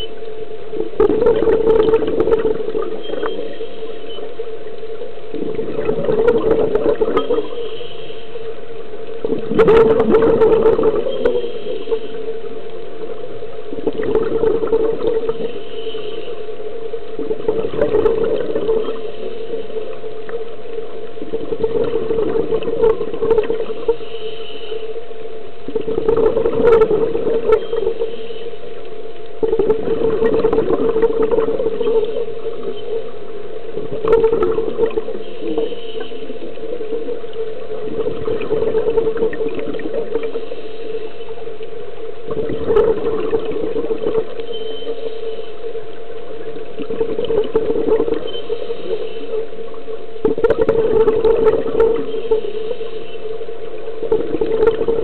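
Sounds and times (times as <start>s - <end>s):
exhaled bubbles underwater: 0.0s - 55.0s
steady hum: 0.0s - 55.0s.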